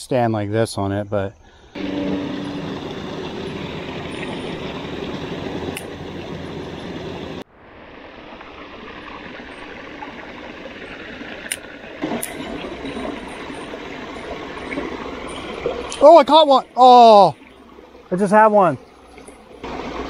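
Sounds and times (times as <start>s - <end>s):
creek running over rocks: 1.8s - 20.0s.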